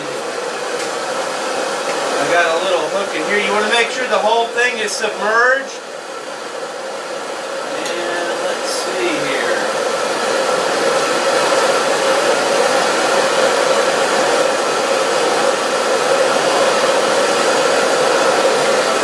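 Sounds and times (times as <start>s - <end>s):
boiling water rushing: 0.0s - 19.0s.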